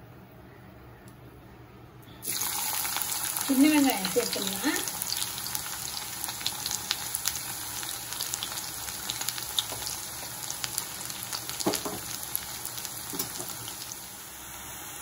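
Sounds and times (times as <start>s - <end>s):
shallots sizzling in hot oil: 2.2s - 15.0s.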